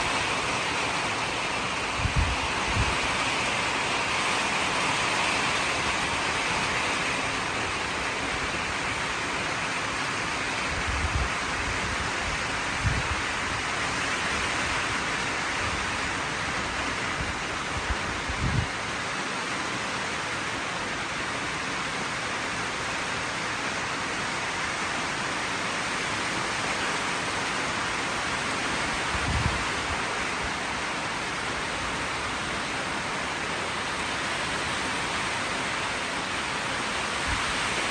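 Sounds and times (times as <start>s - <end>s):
heavy rain in wind: 0.0s - 37.9s.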